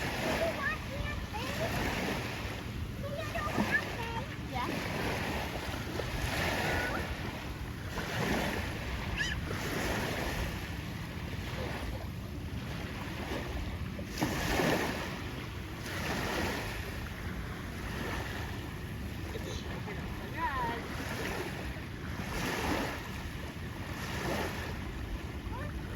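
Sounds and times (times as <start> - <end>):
rush of water: 0.0 - 25.9
small waves lapping: 0.0 - 25.9.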